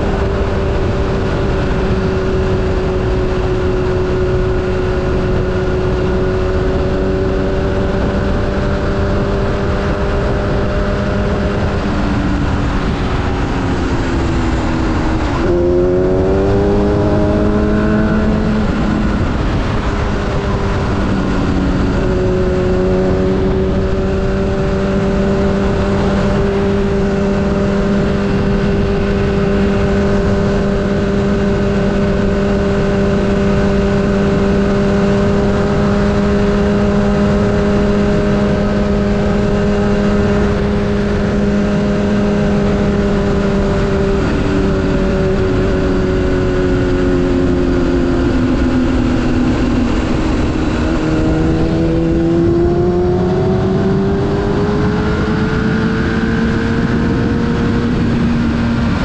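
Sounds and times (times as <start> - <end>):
motorcycle engine cruising: 0.0 - 59.0
wind and road rush: 0.0 - 59.0.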